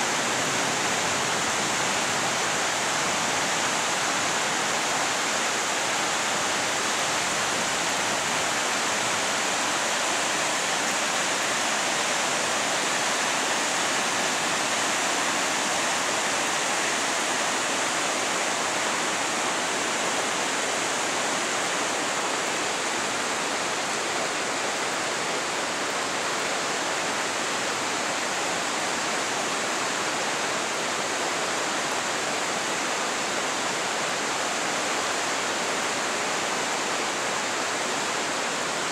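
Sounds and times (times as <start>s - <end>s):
flood water rushing: 0.0s - 38.9s.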